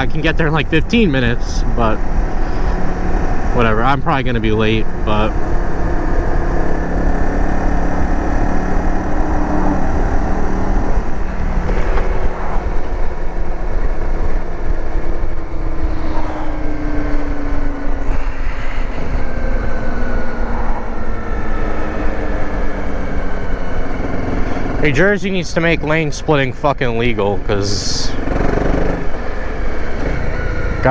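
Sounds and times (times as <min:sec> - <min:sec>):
dirt bike engine running: 0:00.0 - 0:30.9.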